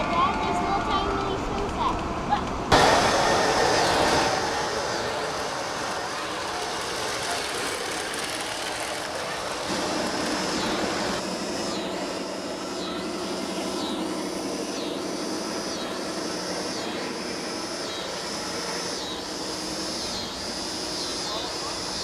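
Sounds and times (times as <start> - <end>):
model train hum: 0.0 - 22.0
high whirring hiss: 0.4 - 22.0.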